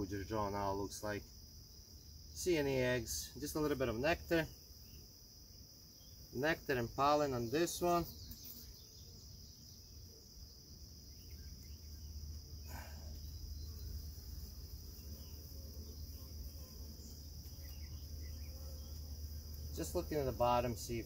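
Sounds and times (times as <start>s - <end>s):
high-pitched insect trill: 0.0s - 21.0s
honeybees buzzing: 1.3s - 21.0s.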